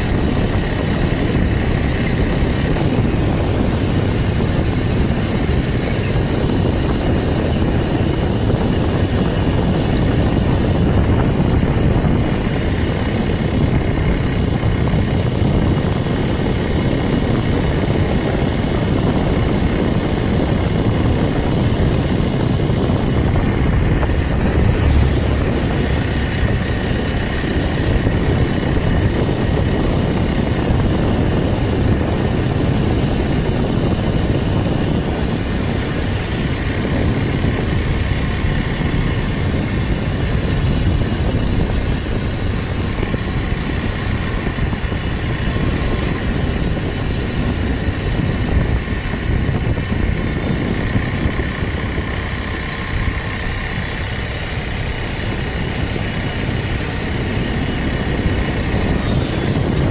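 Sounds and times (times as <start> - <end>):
motorbike engine running: 0.0 - 59.9
wind rushing over microphone: 0.0 - 59.9.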